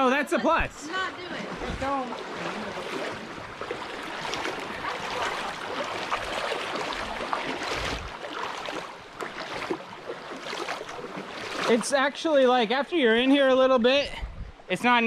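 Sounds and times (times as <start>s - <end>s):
creek water running: 0.0s - 14.1s
small water splashes: 0.9s - 13.9s.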